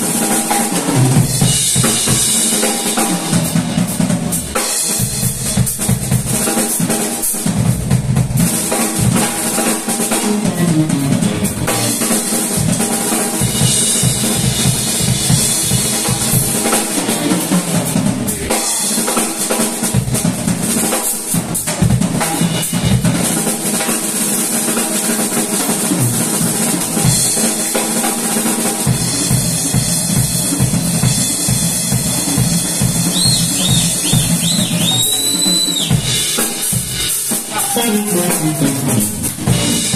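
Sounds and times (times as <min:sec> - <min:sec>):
live band playing instrumental: 0:00.0 - 0:39.9.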